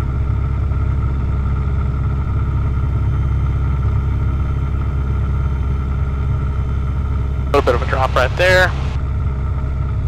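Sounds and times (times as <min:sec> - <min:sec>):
aircraft piston engine running: 0:00.1 - 0:10.0.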